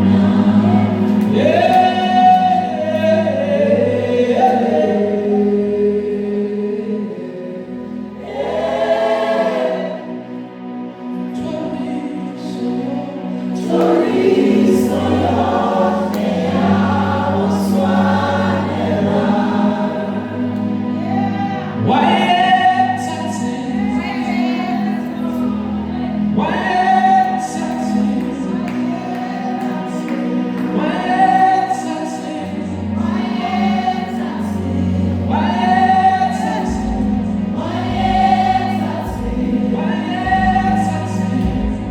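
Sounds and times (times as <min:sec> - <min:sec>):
gospel choir singing: 0:00.0 - 0:41.9.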